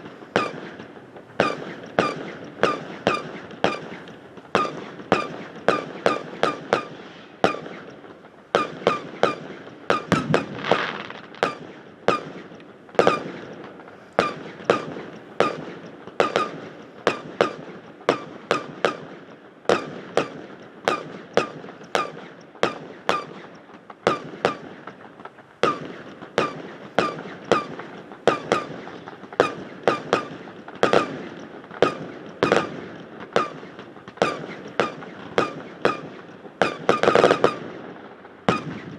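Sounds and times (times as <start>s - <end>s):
fireworks bursts and bangs: 0.0s - 38.9s.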